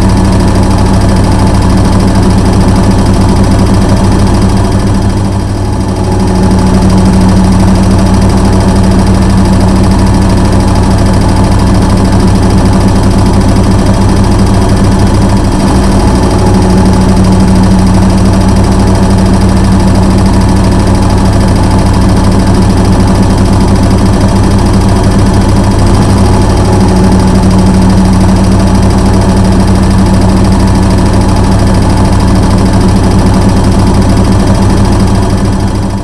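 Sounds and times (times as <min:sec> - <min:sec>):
washing machine humming: 0:00.0 - 0:36.0.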